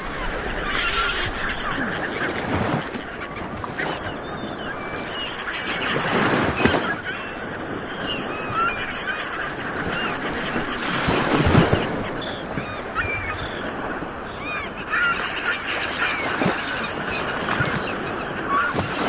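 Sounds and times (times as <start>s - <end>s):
birds calling: 0.0s - 19.0s
ocean waves washing on shore: 0.0s - 19.0s.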